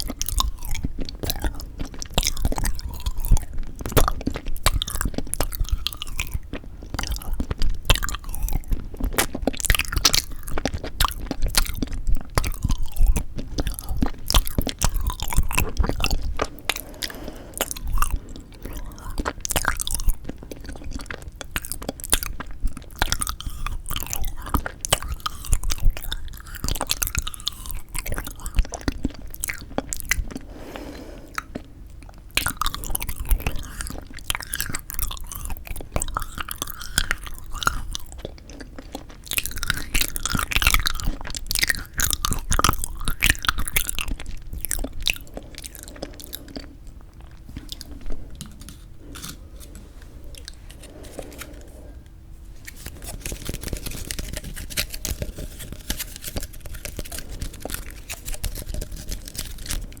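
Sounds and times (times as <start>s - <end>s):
crunchy chewing and biting: 0.0s - 60.0s.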